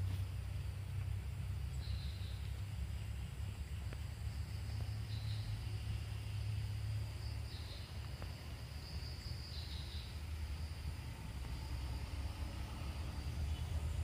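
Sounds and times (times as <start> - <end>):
insects chirping: 0.0 - 14.0
low rumble: 0.0 - 14.0.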